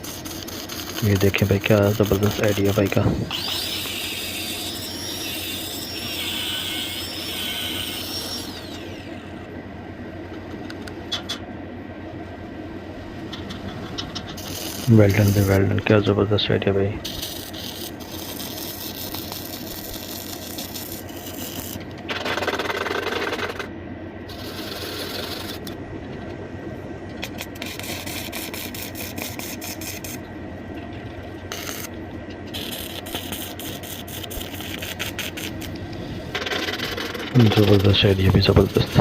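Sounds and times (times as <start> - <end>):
rough welding scraping noise: 0.0 - 9.4, 13.3 - 23.7, 24.3 - 25.8, 27.2 - 30.3, 31.4 - 39.0.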